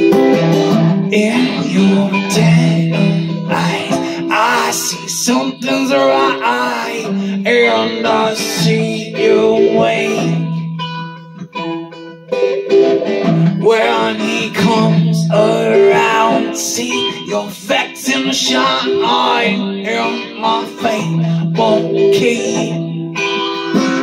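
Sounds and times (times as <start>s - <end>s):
strummed acoustic guitar: 0.0s - 24.0s
man singing: 1.0s - 10.7s, 13.2s - 24.0s.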